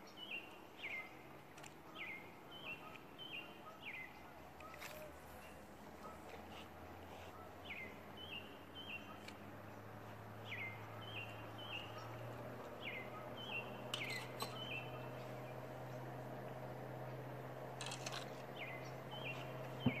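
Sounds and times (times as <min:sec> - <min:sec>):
songbird calling: 0:00.0 - 0:20.0.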